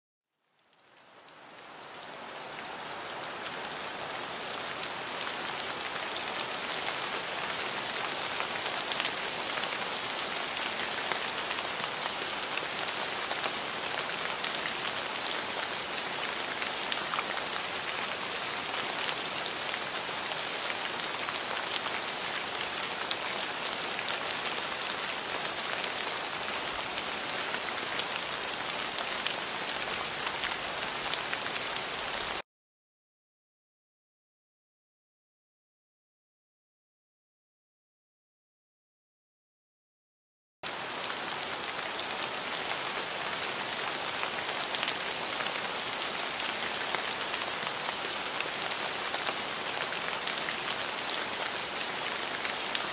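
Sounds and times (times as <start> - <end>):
steady rain: 0.4 - 32.4, 40.6 - 52.9.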